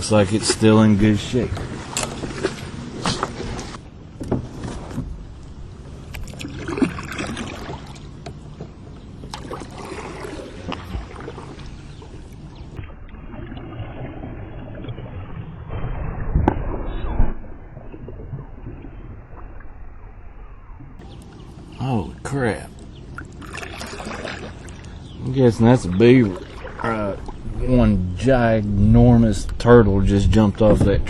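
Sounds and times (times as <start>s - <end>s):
kayak paddling in water: 0.0s - 28.9s.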